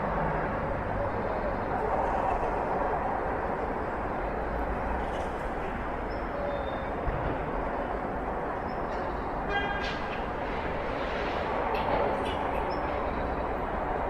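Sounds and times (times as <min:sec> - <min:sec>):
distant street traffic hum: 0:00.0 - 0:14.0.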